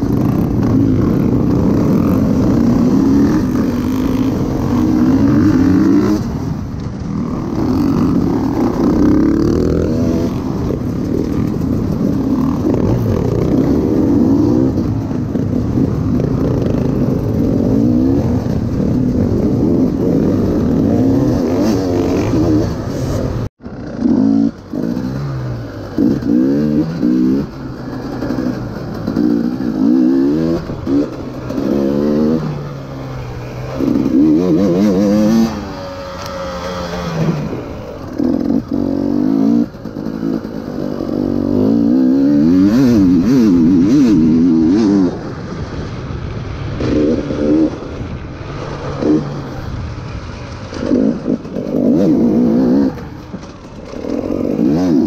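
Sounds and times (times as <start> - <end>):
two-stroke engine revving and shifting: 0.0 - 55.0.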